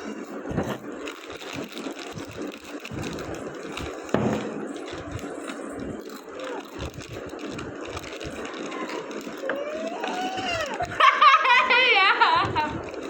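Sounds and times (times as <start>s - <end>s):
potato chips crunching: 0.0s - 11.8s, 12.4s - 13.0s
chip packets crinkling: 0.0s - 13.0s.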